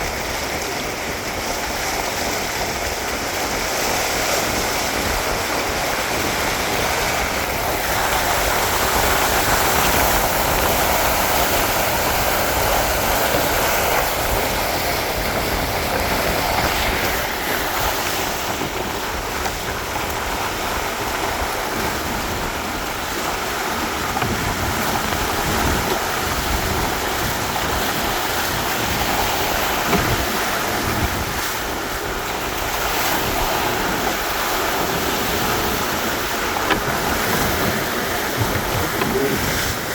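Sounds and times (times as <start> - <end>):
water rushing along hulls: 0.0 - 39.9
wind buffeting microphone: 0.0 - 39.9.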